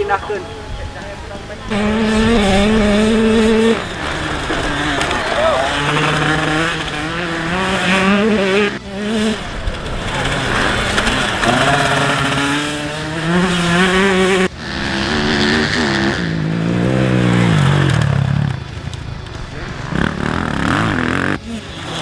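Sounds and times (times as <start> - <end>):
racing motorcycle engine revving: 0.0 - 22.0.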